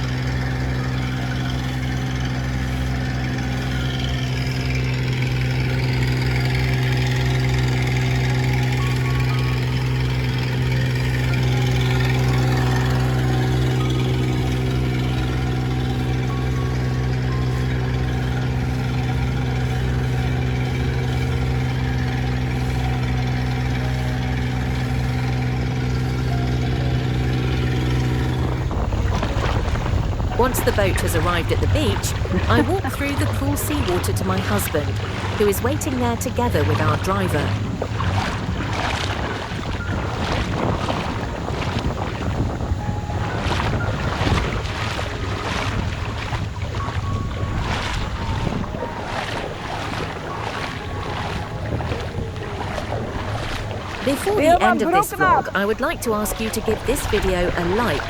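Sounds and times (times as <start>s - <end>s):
wind: 0.0s - 30.7s, 36.6s - 58.0s
boat engine running: 0.0s - 58.0s
water rushing: 0.0s - 58.0s.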